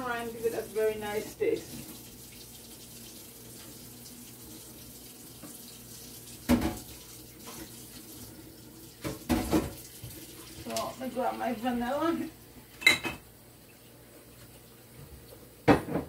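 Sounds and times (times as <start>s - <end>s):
tap water running into sink: 0.0s - 13.3s.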